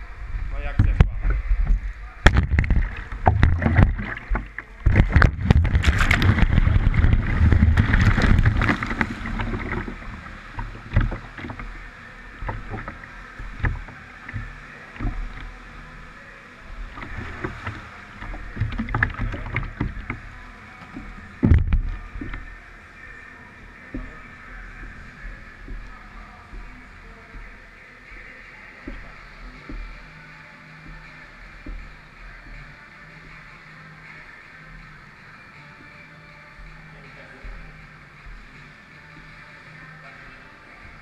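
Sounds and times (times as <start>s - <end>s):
water splashing from swimming: 0.0s - 41.0s.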